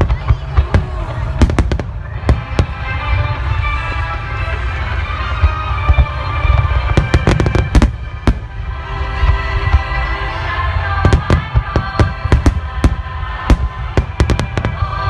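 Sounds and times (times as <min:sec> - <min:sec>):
fireworks bursting with sharp bangs: 0:00.0 - 0:15.0
music playing: 0:00.0 - 0:15.0.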